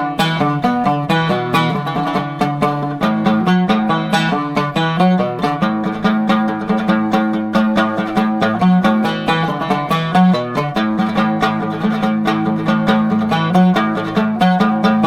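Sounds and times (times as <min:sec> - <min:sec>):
plucked string instrument music: 0:00.0 - 0:15.0.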